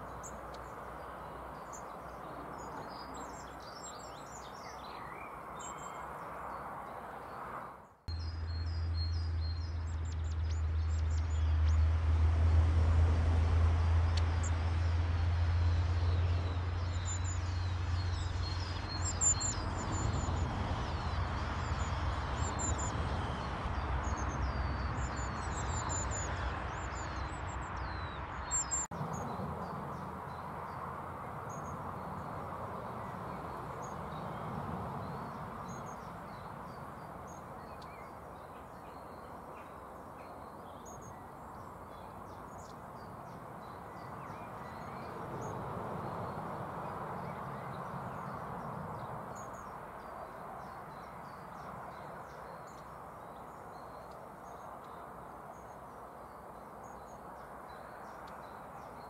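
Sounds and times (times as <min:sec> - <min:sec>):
small birds chirping: 0:00.0 - 0:11.9, 0:14.0 - 0:59.0
rushing wind: 0:00.0 - 0:59.0.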